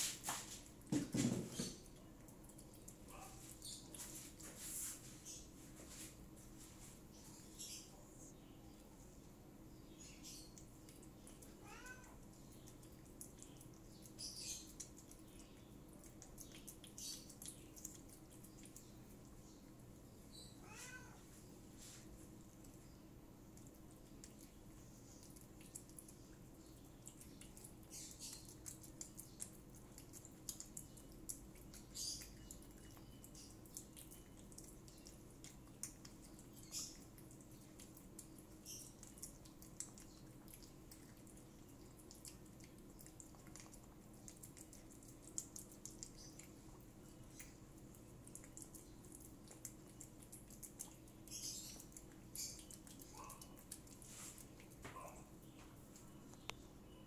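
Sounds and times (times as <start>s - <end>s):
cat chewing wet food: 0.0s - 7.2s, 8.7s - 20.6s, 21.2s - 56.8s.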